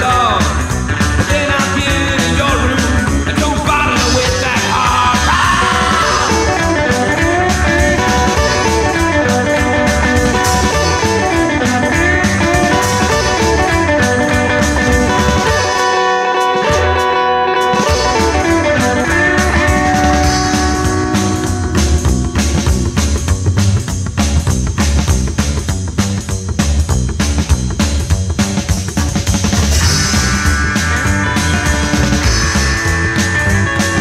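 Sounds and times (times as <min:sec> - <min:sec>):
rockabilly song with electric guitar: 0:00.0 - 0:34.0.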